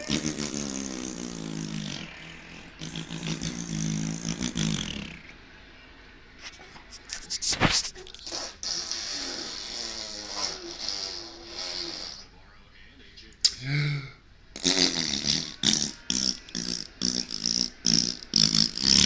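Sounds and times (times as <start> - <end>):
low buzzing vocal noises: 0.0 - 5.4, 7.0 - 12.5, 13.4 - 19.0.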